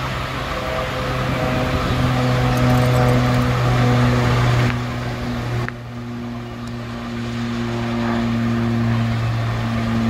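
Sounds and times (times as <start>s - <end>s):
diesel locomotive engine running: 0.0s - 10.0s.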